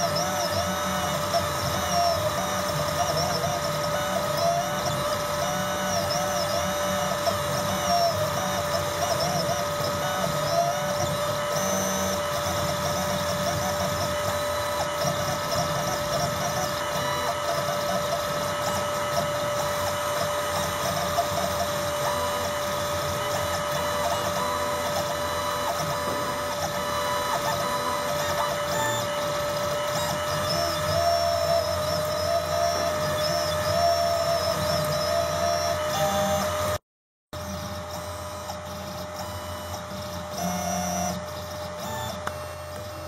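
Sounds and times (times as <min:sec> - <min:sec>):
spindle high whine: 0:00.0 - 0:36.8
stepper motors whining: 0:00.0 - 0:36.8, 0:37.4 - 0:43.0.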